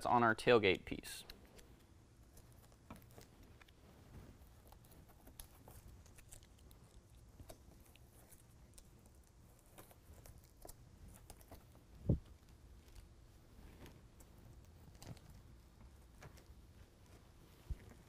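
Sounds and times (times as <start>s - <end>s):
hook-and-loop fastener rustles and clicks: 1.2s - 18.0s.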